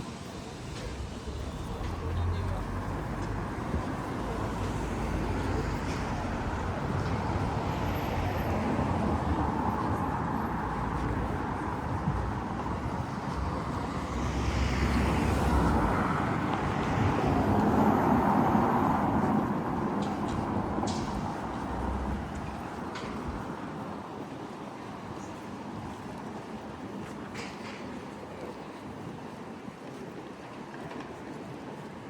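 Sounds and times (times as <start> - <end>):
city street noise: 0.0 - 32.0.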